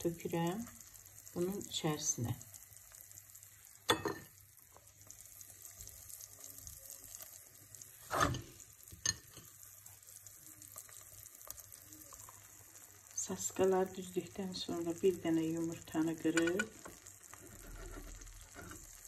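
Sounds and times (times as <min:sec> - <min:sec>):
oil sizzling in a frying pan: 0:00.0 - 0:19.0
sausage pieces hitting hot oil: 0:00.0 - 0:19.0.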